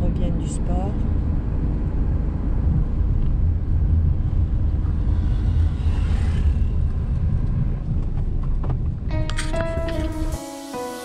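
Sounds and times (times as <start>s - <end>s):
engine and road rumble: 0.0s - 10.5s.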